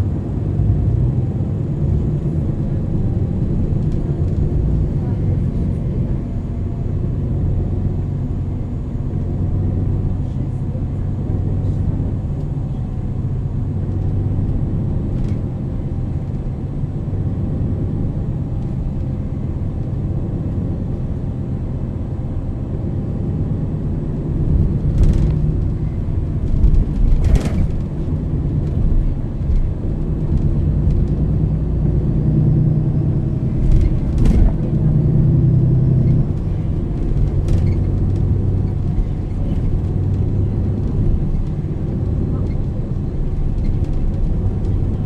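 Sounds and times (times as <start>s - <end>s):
bus diesel engine droning: 0.0s - 45.0s
road rumble: 0.0s - 45.0s.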